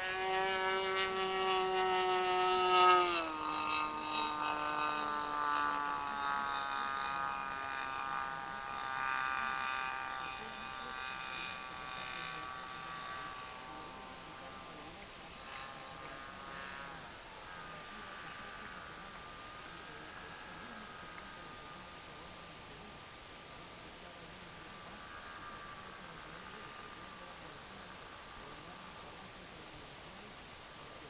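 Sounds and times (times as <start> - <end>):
model airplane engine buzzing: 0.0 - 31.0.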